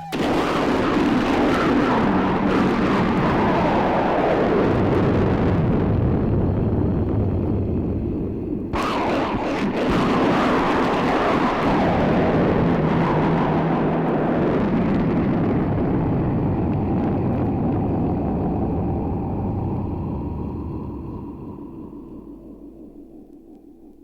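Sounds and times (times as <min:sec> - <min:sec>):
rolling thunder: 0:00.0 - 0:23.2.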